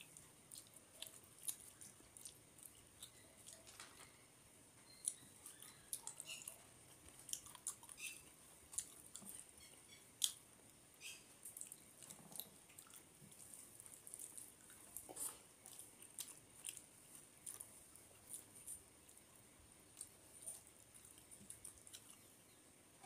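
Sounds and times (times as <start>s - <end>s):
chewing and mouth clicks: 0.0s - 4.1s, 4.8s - 22.4s.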